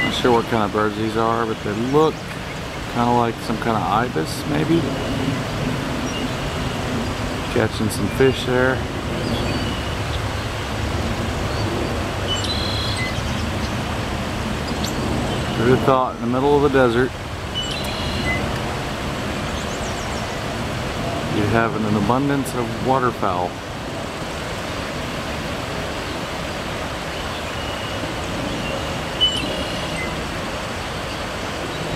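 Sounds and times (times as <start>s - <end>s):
steady outdoor rushing noise: 0.0s - 31.9s.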